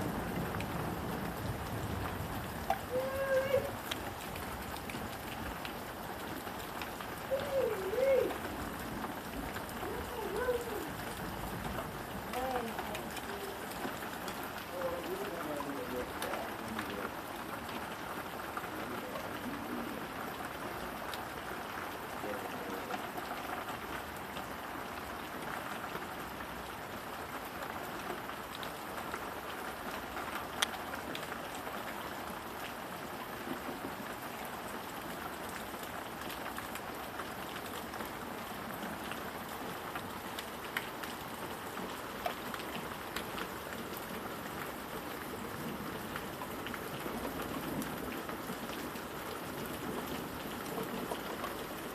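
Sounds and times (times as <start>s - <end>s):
rain on patio and leaves: 0.0s - 51.9s.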